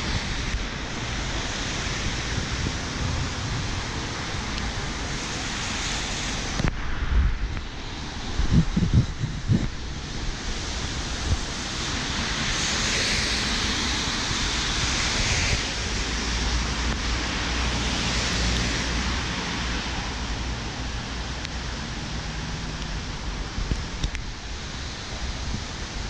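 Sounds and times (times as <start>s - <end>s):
tyres hissing on wet road: 0.0s - 26.0s
wind rumbling on microphone: 0.0s - 26.0s.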